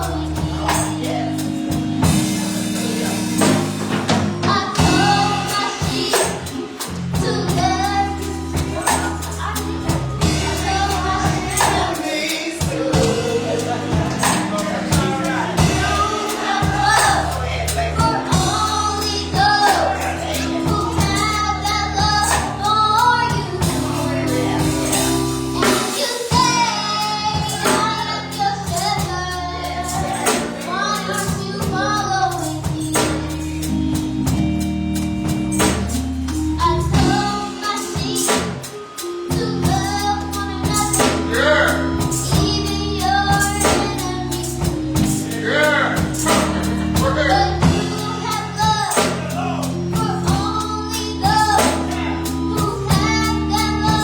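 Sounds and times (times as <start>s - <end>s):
gospel music with singing: 0.0s - 54.0s
tambourine: 4.9s - 7.0s, 8.0s - 21.4s, 22.2s - 22.7s, 23.6s - 54.0s.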